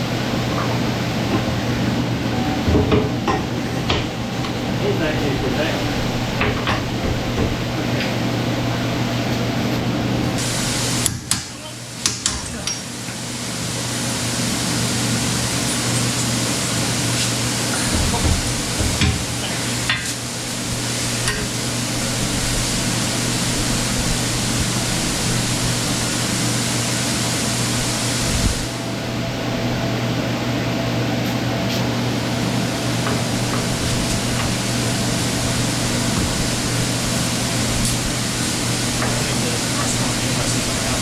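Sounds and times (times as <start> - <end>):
machine hissing: 0.0 - 29.4, 32.2 - 41.0
low machine hum: 0.0 - 41.0.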